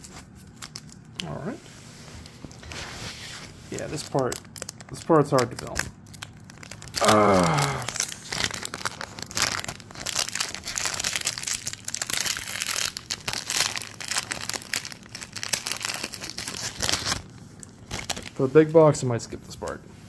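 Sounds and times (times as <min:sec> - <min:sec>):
plastic wrappers crinkling and tearing: 0:00.0 - 0:01.4, 0:03.7 - 0:19.8.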